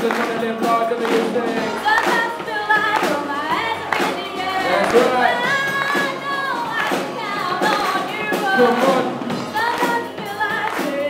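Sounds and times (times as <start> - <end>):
drum kit beat: 0.0 - 11.0
electric guitars and bass: 0.0 - 11.0
live band playing: 0.0 - 11.0
girl singing into microphone: 1.5 - 11.0.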